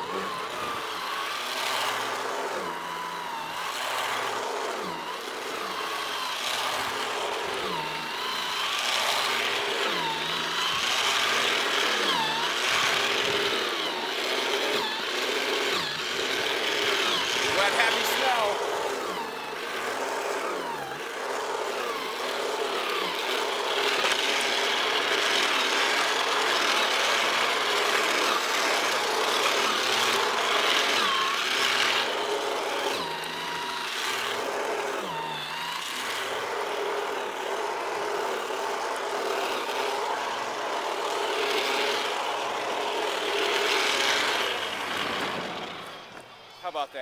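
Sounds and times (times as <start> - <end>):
snow thrower running: 0.0 - 47.0.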